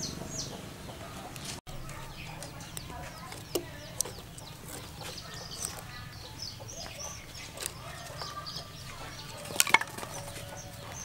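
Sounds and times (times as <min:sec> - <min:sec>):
chickens clucking: 0:00.0 - 0:11.0
small birds chirping: 0:00.0 - 0:11.0.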